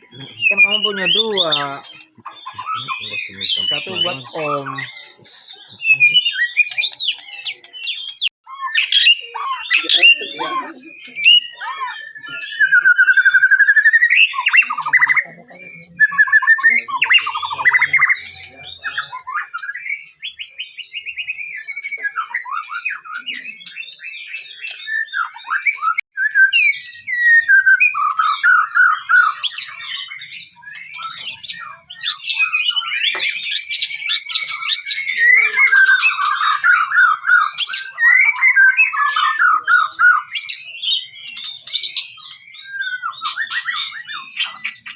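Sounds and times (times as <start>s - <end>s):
songbird singing trills: 0.0s - 44.9s.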